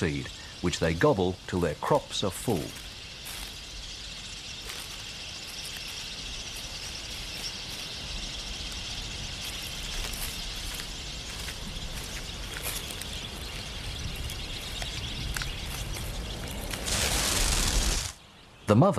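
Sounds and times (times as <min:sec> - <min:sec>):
high-pitched insect drone: 0:02.5 - 0:18.2.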